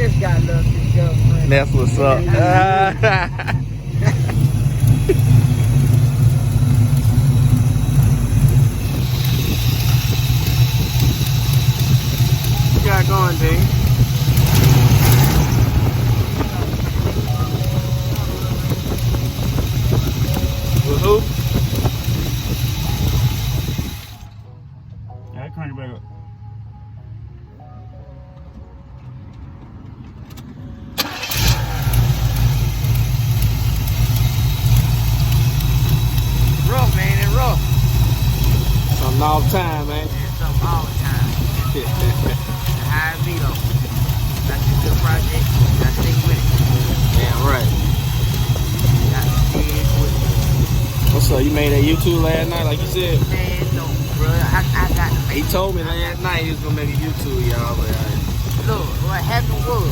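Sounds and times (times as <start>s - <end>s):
car engine idling: 0.0s - 25.0s, 29.0s - 59.9s.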